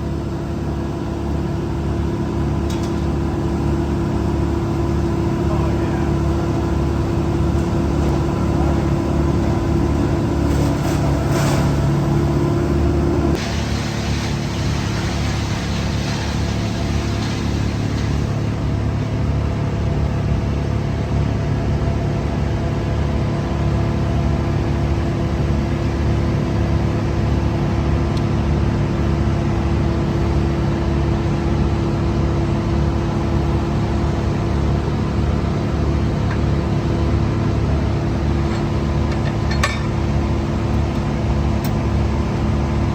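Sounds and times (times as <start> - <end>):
heavy equipment engine running: 0.0 - 23.2, 23.9 - 42.9.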